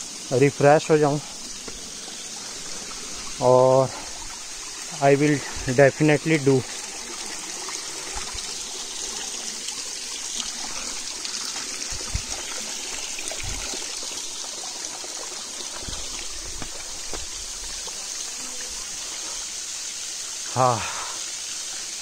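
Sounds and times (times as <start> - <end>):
water trickling between boulders: 0.0 - 22.0.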